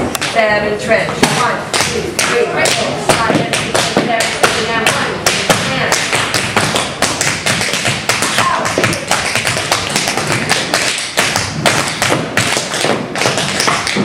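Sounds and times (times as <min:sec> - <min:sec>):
tap dancing on stage floor: 0:01.2 - 0:14.0.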